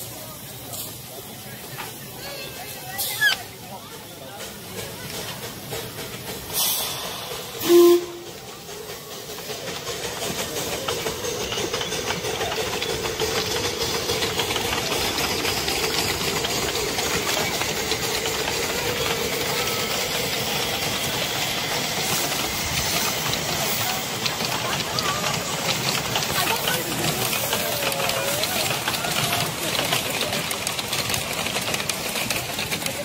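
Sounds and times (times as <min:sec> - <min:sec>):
steam locomotive hissing: 0:00.0 - 0:33.0
wheels clattering on rail: 0:00.0 - 0:33.0.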